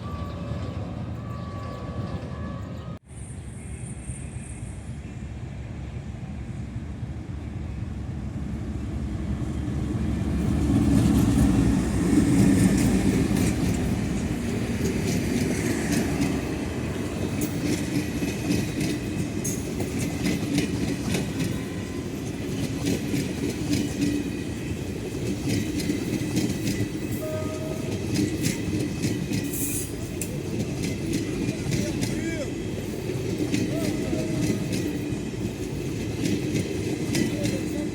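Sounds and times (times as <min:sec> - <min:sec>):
diesel locomotive passing: 0:00.0 - 0:37.9.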